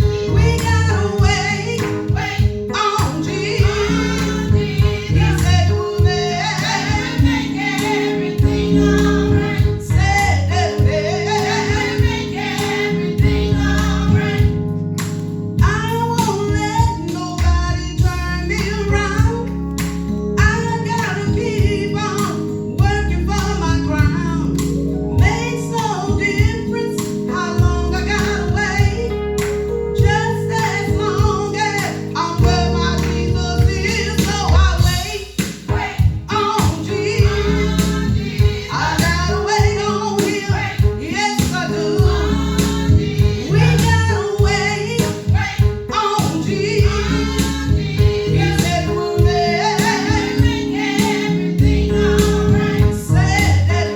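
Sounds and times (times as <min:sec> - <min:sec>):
voices singing worship song: 0:00.0 - 0:53.9.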